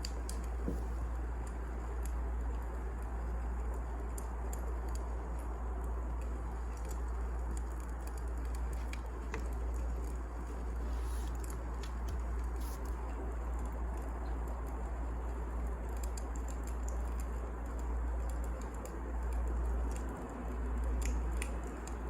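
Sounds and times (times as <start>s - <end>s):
firewood crackling: 0.0s - 22.0s.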